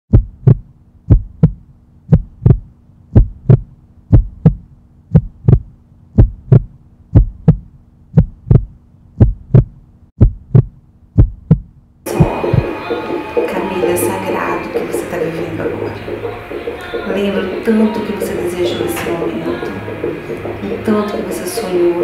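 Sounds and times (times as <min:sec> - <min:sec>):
heartbeat thumps: 0:00.1 - 0:22.0.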